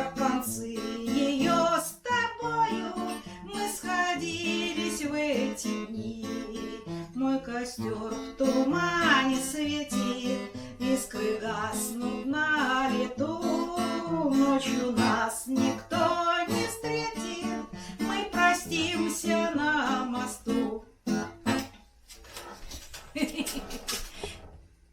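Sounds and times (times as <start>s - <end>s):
person singing: 0.0s - 20.9s
acoustic guitar strumming: 0.0s - 21.9s.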